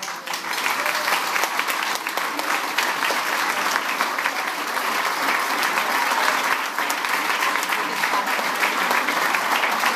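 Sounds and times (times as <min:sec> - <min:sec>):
people applauding: 0:00.0 - 0:09.9.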